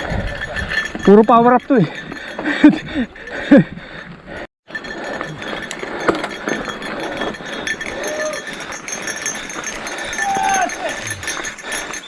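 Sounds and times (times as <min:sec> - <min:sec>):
bike clinking and rattling: 0:00.0 - 0:12.0.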